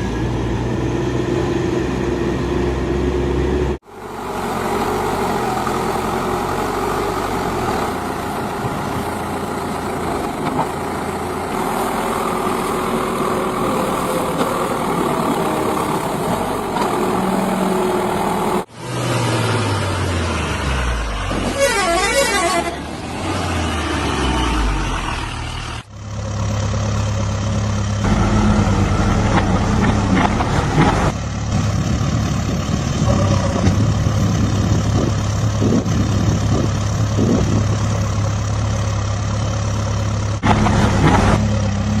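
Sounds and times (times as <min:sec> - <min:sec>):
diesel engines running: 0:00.0 - 0:42.0.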